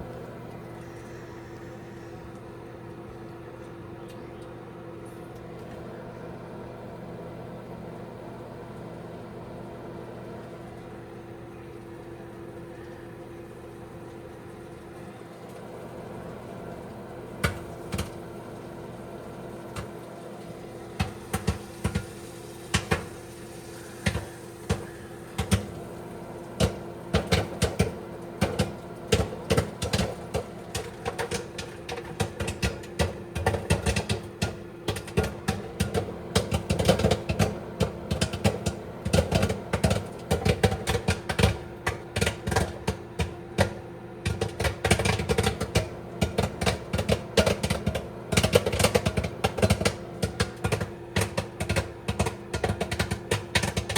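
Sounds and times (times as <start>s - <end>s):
microwave oven humming: 0.0s - 53.9s
popcorn popping: 8.6s - 53.9s.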